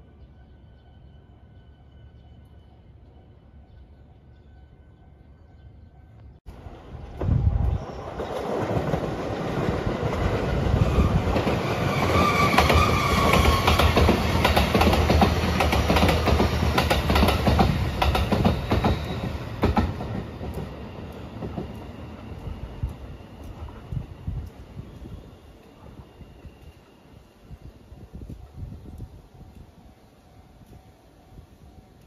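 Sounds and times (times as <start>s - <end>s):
train rumble: 6.3s - 32.0s.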